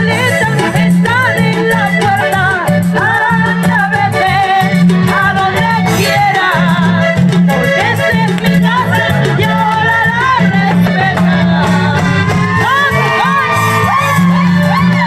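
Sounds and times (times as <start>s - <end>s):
fast percussion: 0.0s - 15.0s
live band playing: 0.0s - 15.0s
repeating bass line: 0.0s - 15.0s
woman singing through speakers: 0.0s - 15.0s.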